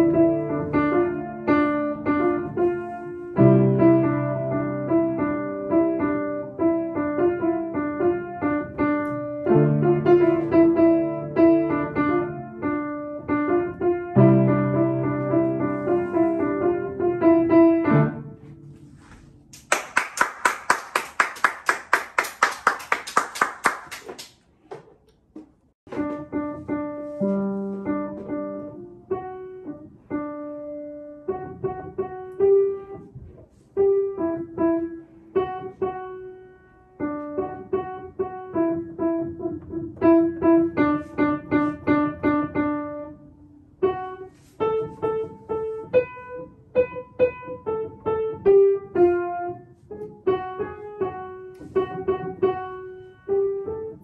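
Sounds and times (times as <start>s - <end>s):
upright piano melody: 0.0s - 19.7s, 25.9s - 54.0s.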